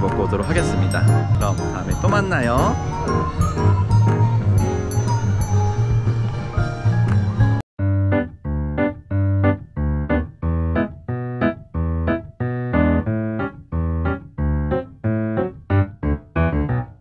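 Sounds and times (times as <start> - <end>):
bouncy keyboard music: 0.0 - 17.0.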